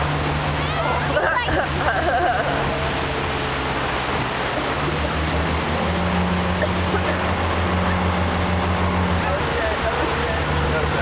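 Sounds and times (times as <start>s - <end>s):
motorboat engine running: 0.0s - 11.0s
wind and water spray: 0.0s - 11.0s.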